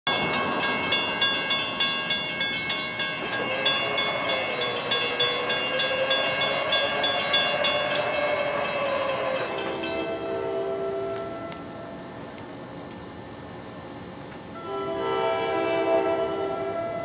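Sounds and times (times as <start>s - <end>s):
crossing warning bell ringing: 0.1s - 12.7s, 14.5s - 17.0s.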